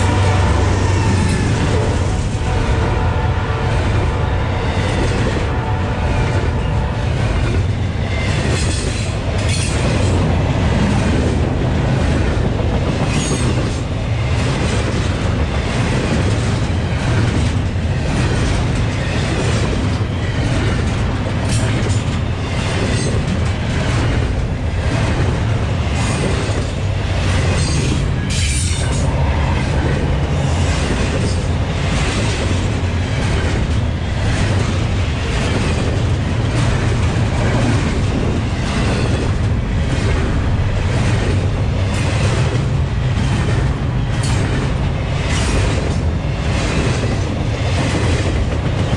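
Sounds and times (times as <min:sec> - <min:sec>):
steel wheels rumbling on rail: 0:00.0 - 0:48.9.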